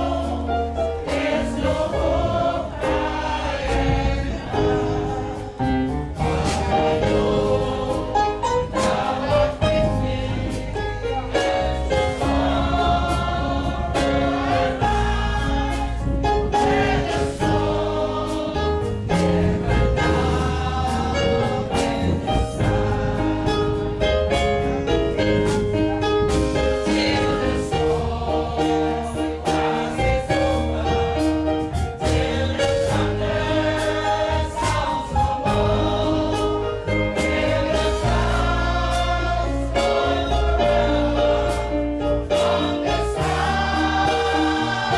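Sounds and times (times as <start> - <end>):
choir singing gospel: 0.0 - 44.9
instrumental accompaniment: 0.0 - 44.9
sustained bass: 0.0 - 44.9.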